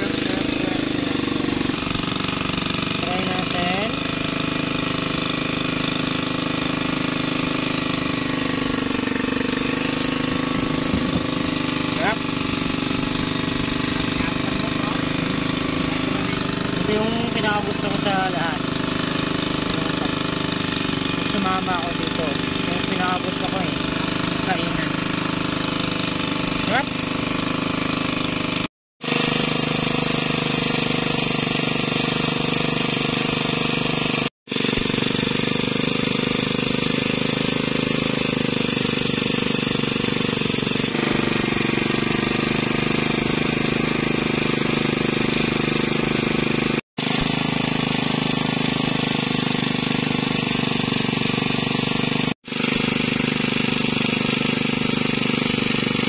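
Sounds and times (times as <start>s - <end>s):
boat engine running steadily: 0.0s - 56.0s.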